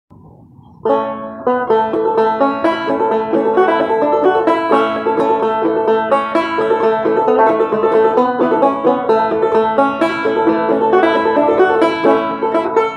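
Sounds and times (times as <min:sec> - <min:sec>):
banjo played clawhammer style: 0:00.7 - 0:12.9.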